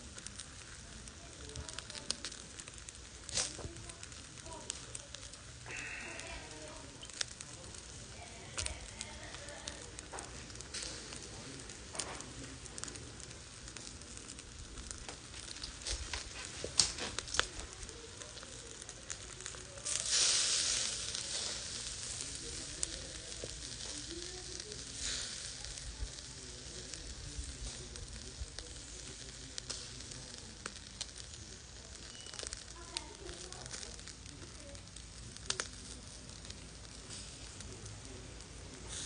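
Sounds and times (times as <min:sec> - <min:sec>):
chicken sizzling over charcoal: 0:00.0 - 0:39.0
sharp pops and crackles: 0:00.0 - 0:39.0.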